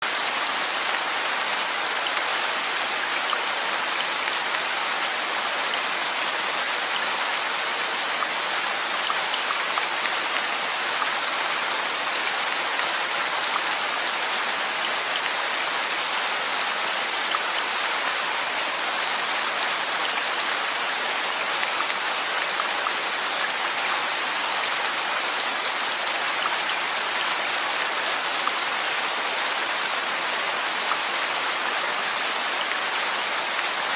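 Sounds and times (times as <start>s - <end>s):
steady rainfall: 0.0s - 33.9s.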